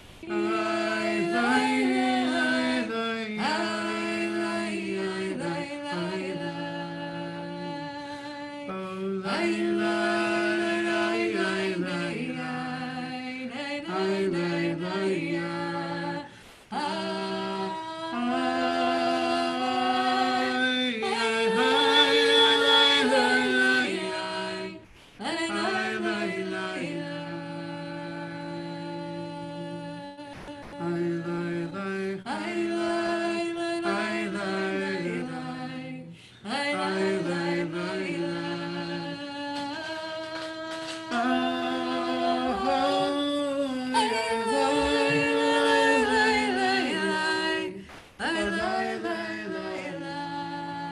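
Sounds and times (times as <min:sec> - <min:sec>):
person singing wordless melody: 0:00.0 - 0:50.9.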